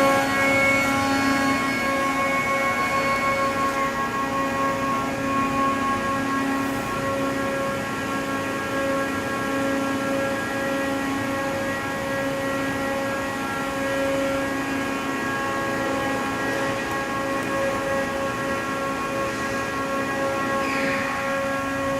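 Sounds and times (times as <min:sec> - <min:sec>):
steady machine hum: 0:00.0 - 0:21.9.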